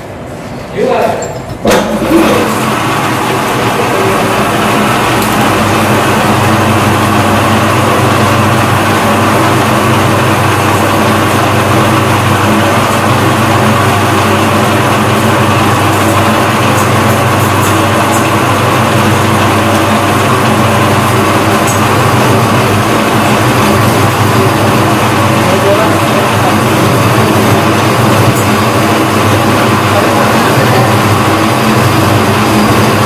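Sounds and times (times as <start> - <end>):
lathe motor humming: 1.6 - 33.0.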